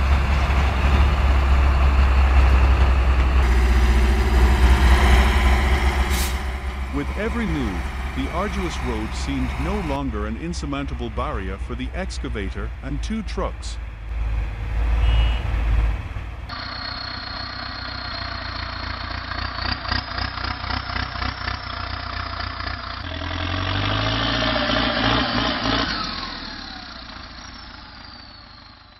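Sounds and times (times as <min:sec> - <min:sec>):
clattering engine revving: 0:00.0 - 0:15.0, 0:15.6 - 0:28.9
loud low engine rumble: 0:00.0 - 0:28.9.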